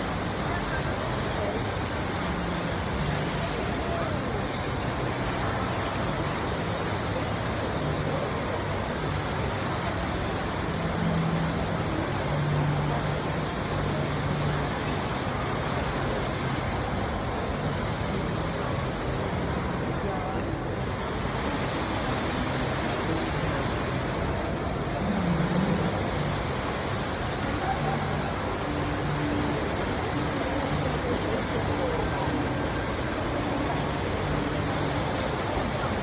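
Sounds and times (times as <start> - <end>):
waterfall pouring: 0.0 - 36.0.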